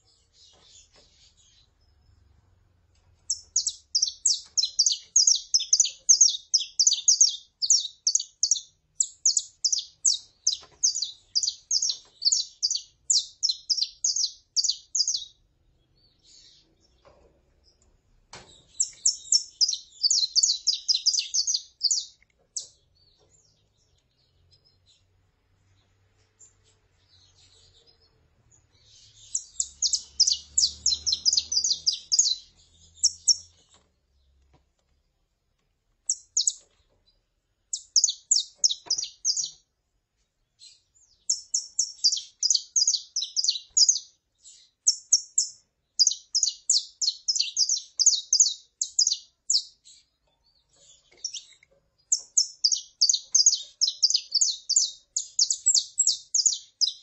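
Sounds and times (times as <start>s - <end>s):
finches chirping: 3.2s - 17.1s, 18.5s - 25.1s, 26.4s - 33.8s, 36.1s - 36.8s, 37.7s - 39.6s, 40.6s - 57.0s.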